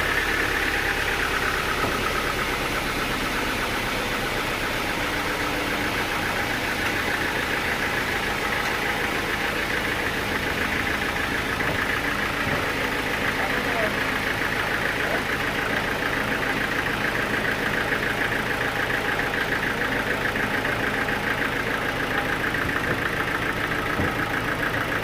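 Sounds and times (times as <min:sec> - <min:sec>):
sawmill machinery pulsing: 0:00.0 - 0:25.0.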